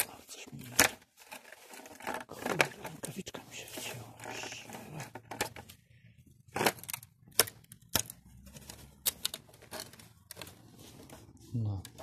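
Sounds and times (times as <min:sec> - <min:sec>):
rustling: 0:00.1 - 0:05.9, 0:06.5 - 0:12.0.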